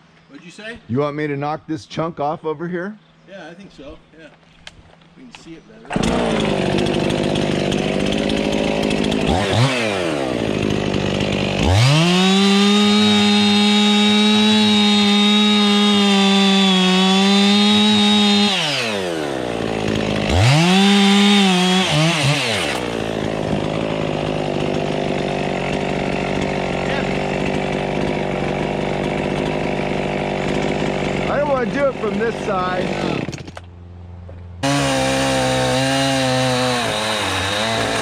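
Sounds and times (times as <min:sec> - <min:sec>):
chainsaw cutting wood: 0:05.8 - 0:33.8, 0:34.6 - 0:38.0.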